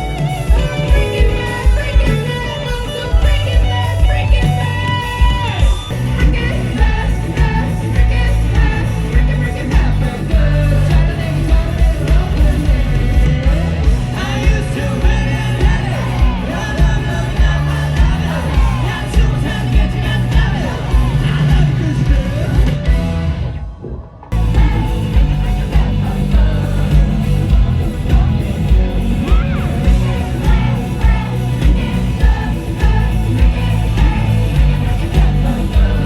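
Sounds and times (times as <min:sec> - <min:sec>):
person singing lead vocal: 0:00.0 - 0:23.1, 0:23.8 - 0:36.0
live rock band playing: 0:00.0 - 0:23.6, 0:24.3 - 0:36.0.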